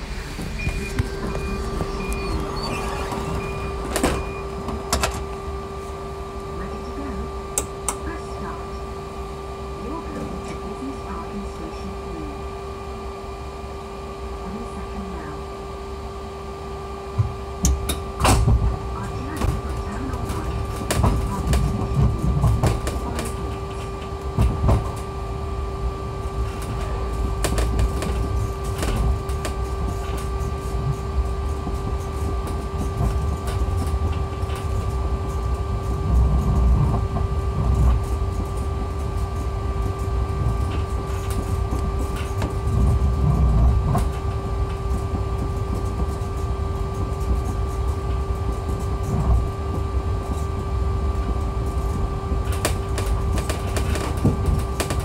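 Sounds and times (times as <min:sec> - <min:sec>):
low rumble: 0:00.0 - 0:08.7, 0:18.1 - 0:55.0
steady electric whine: 0:00.0 - 0:55.0.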